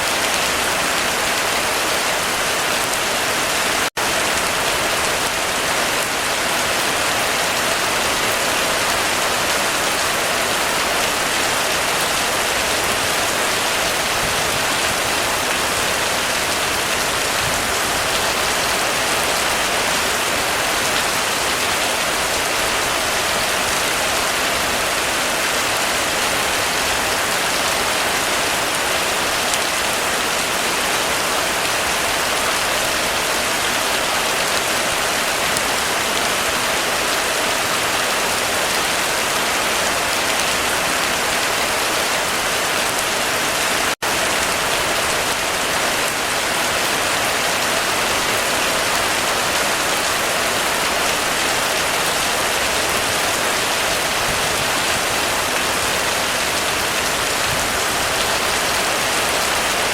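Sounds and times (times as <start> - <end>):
heavy rain on a roof: 0.0 - 59.9.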